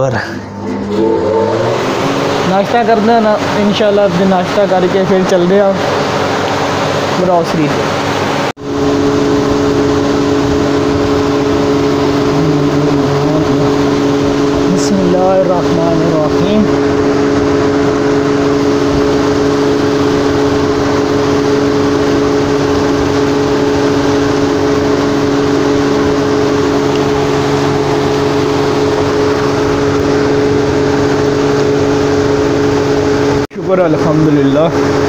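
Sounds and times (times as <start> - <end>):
fan air rushing: 0.0 - 35.0
motor hum: 0.0 - 35.0.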